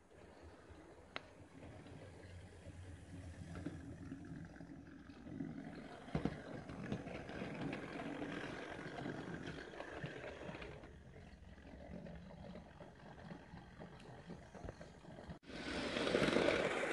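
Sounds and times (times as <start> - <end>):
model train motor running: 0.0 - 16.9
wheels clicking on track joints: 0.0 - 16.9.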